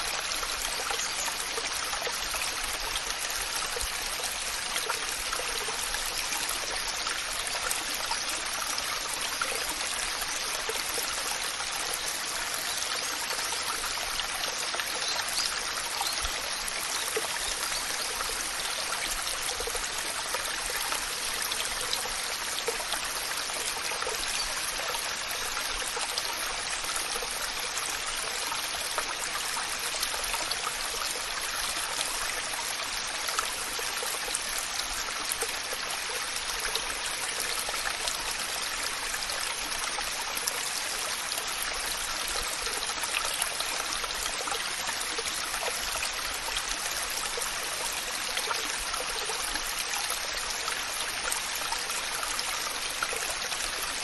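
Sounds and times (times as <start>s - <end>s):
waterfall pouring and splashing: 0.0s - 54.0s.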